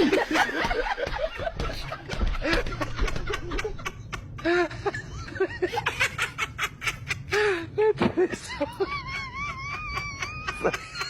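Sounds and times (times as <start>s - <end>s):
people snickering and laughing: 0.0s - 11.0s.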